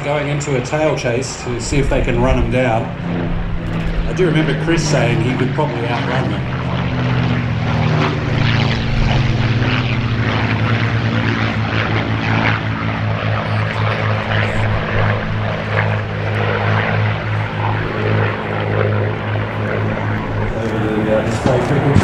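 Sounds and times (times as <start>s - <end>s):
propeller planes droning overhead: 0.0s - 22.0s.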